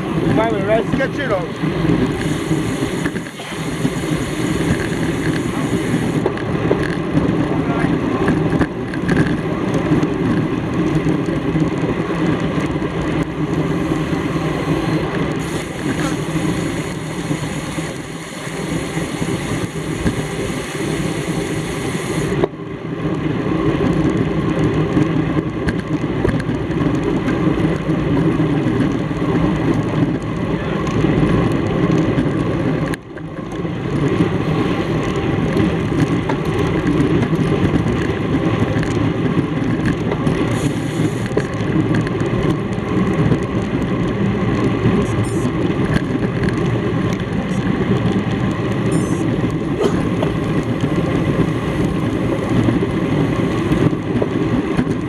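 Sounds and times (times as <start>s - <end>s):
rushing wind and road noise: 0.0s - 55.0s.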